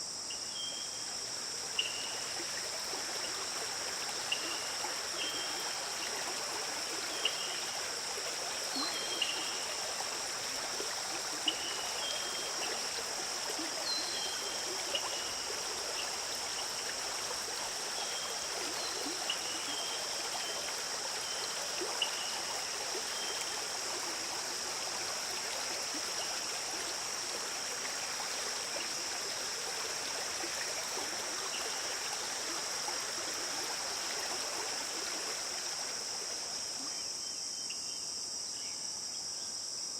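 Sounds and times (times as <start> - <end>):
stream water trickling: 0.0 - 39.1.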